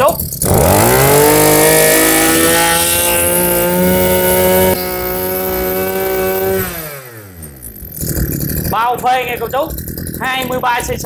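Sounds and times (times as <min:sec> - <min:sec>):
brush-cutter engine running: 0:00.0 - 0:11.0.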